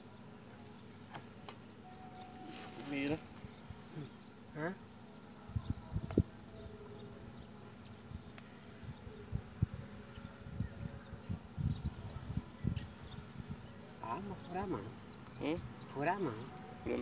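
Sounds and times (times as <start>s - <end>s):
insect buzzing: 0.0s - 17.0s.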